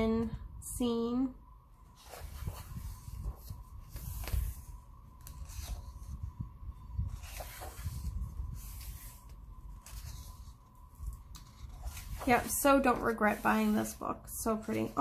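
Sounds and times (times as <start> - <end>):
paper pages rustling: 1.9 - 6.2, 7.1 - 15.0.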